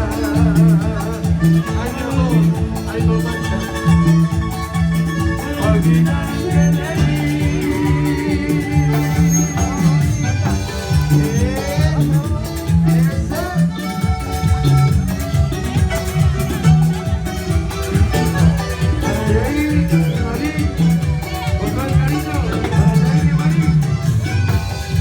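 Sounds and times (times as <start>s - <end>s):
person singing: 0.0s - 14.9s, 18.2s - 24.2s
latin american band playing: 0.0s - 25.0s.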